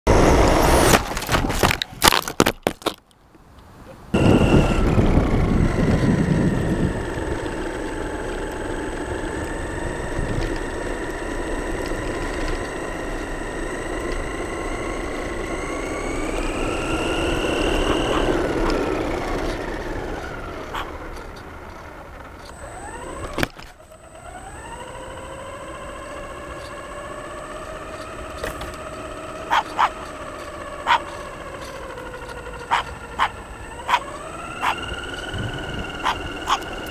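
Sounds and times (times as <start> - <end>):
model car motor whining: 4.1 - 36.9.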